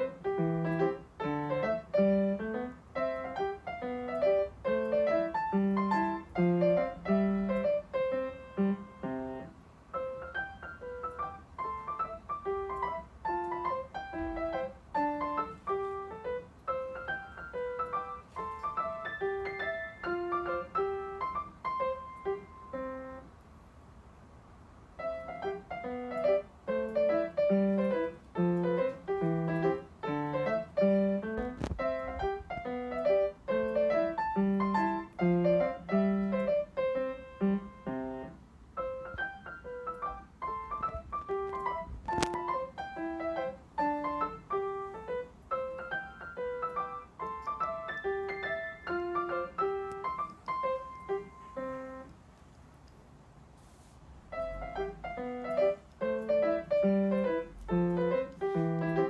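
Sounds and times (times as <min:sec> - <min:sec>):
light piano tune: 0:00.0 - 0:53.0, 0:53.6 - 0:59.0.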